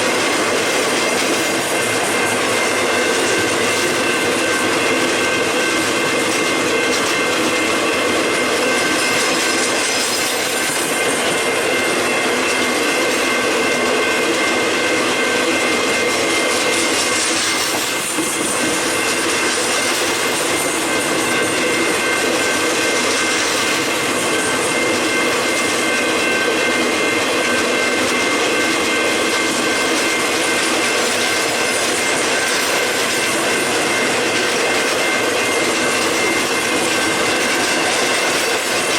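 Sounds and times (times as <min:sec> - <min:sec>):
freight train rumbling and rattling: 0:00.0 - 0:38.9
train wheels squealing: 0:00.0 - 0:38.9.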